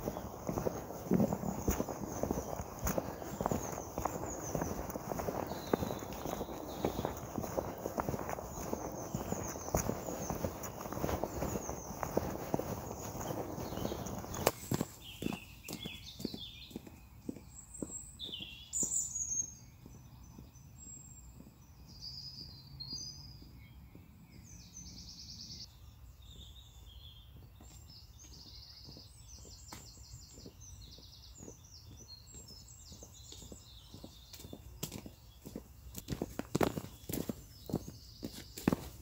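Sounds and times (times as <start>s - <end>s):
footsteps on dirt path: 0.0s - 24.7s, 27.1s - 39.0s
songbirds singing: 0.0s - 39.0s.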